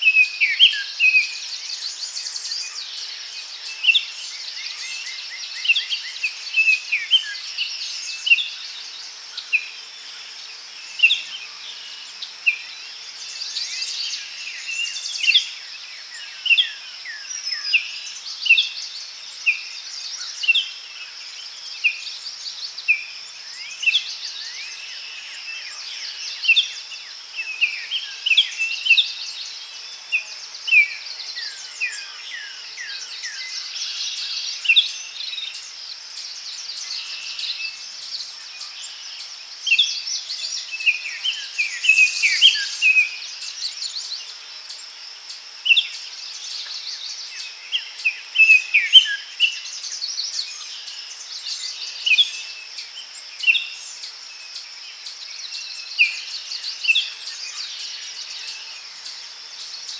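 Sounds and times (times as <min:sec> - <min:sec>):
insect drone: 0:00.0 - 0:59.9.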